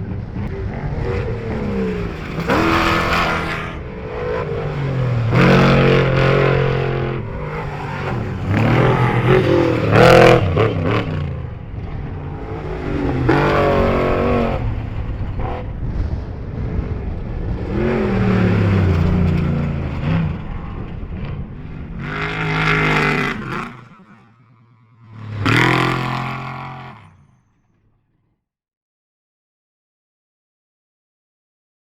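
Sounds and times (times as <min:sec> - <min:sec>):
race vehicle engines revving past: 0:00.0 - 0:27.2.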